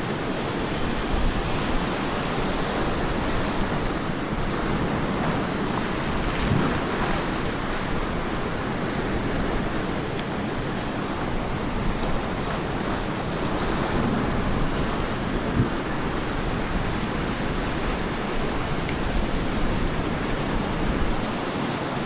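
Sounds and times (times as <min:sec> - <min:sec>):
ocean surf washing onto beach: 0:00.0 - 0:22.0
wind on microphone: 0:00.0 - 0:22.0.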